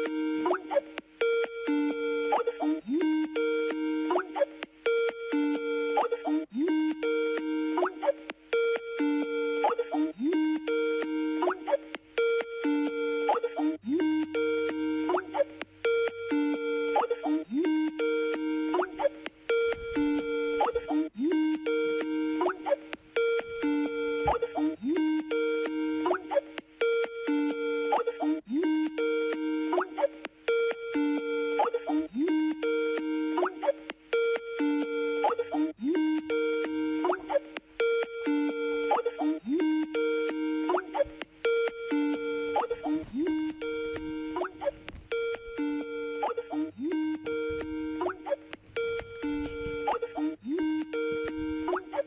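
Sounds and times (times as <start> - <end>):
two-tone electronic ringtone: 0.0 - 52.0.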